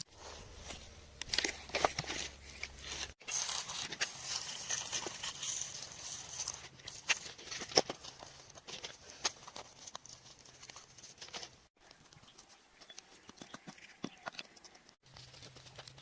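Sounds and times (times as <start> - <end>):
soil and stones scraped by hand: 0.1 - 16.0.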